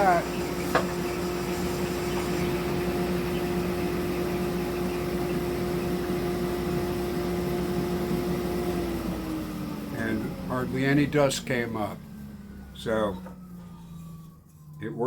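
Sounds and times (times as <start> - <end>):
sander motor hum: 0.0 - 15.0.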